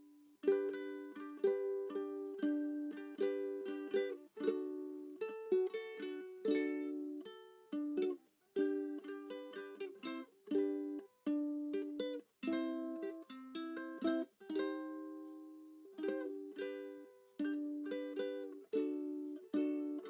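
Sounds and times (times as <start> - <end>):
ukulele strumming chords: 0.0 - 20.0.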